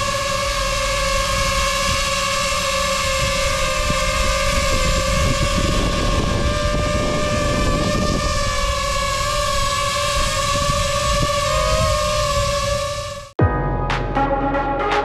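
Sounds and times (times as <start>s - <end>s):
quadcopter propellers buzzing whine: 0.0s - 13.4s
prop wash buffeting microphone: 0.0s - 15.0s.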